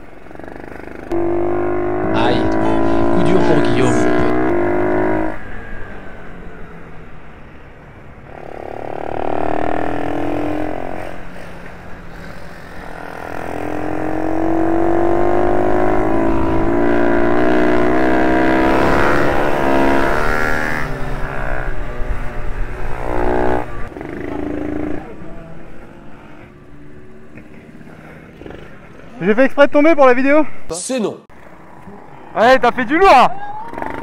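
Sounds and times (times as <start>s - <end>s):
minibike engine revving: 0.0s - 7.5s, 8.2s - 29.3s, 33.4s - 34.0s.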